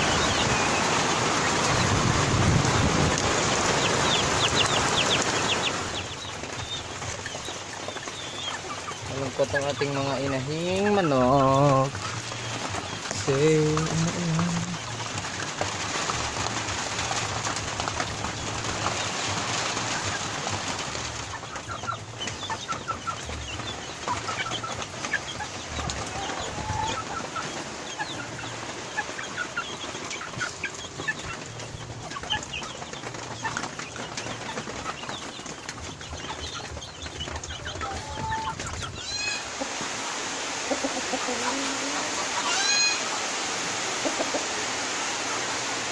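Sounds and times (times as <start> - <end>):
rain hissing: 0.0 - 34.8, 38.0 - 45.9
chickens clucking: 0.0 - 45.9.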